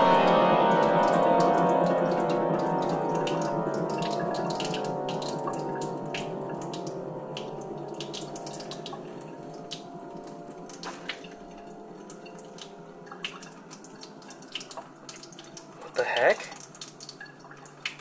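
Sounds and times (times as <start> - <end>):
water drips and ticks: 0.0 - 18.0.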